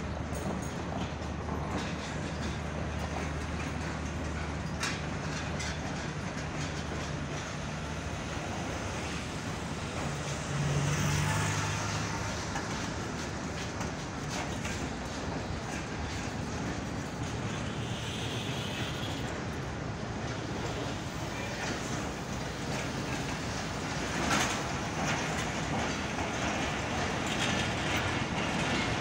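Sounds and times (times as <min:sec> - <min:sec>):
train wheels clicking over rails: 0:00.0 - 0:29.0.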